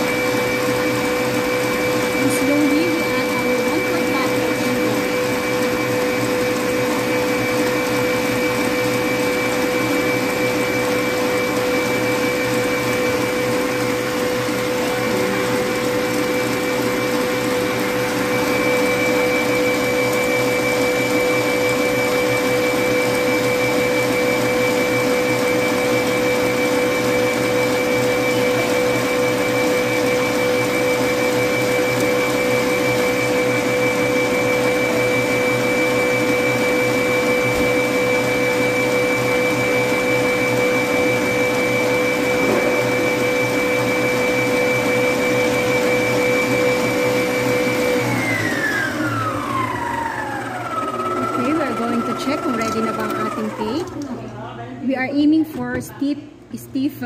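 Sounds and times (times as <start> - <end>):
electric mixer humming and whining: 0.0 - 54.4.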